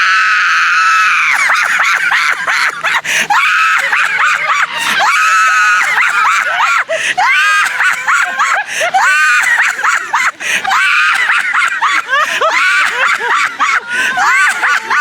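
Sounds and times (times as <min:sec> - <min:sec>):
people screaming: 0:00.0 - 0:15.0.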